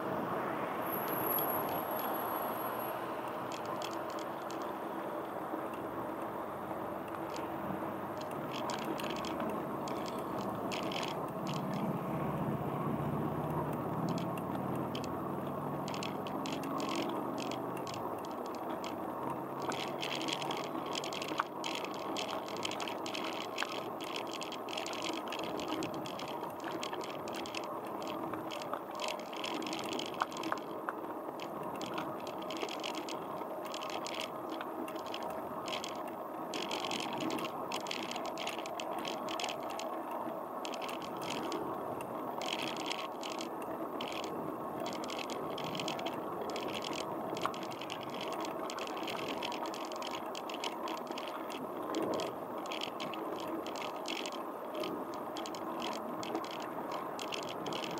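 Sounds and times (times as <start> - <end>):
bicycle tyre and wind noise: 0.0 - 57.9
bike clicking and rattling: 1.0 - 2.2, 3.2 - 57.9.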